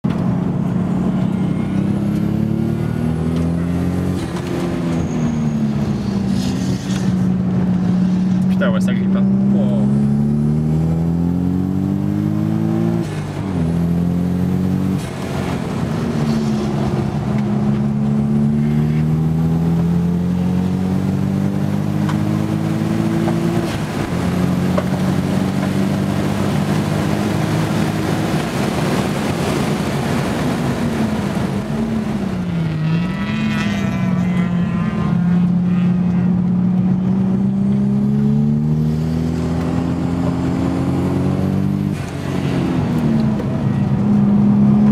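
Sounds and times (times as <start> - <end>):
car engine revving through gears: 0.0 - 44.9.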